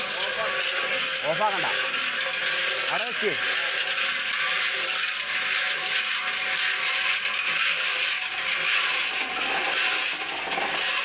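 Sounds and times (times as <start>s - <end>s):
concrete mixer running: 0.0s - 11.0s
stone mix tumbling in drum: 0.0s - 11.0s.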